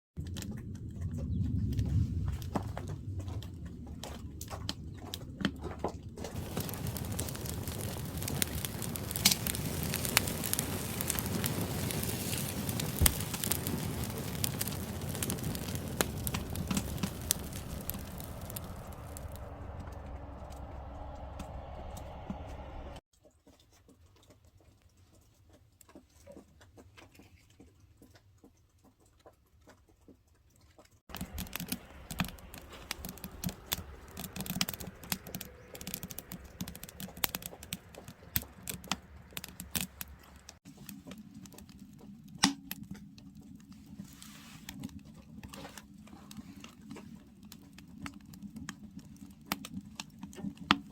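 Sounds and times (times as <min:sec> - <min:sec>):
wood fire crackling: 0:01.3 - 0:23.0, 0:31.1 - 0:50.9.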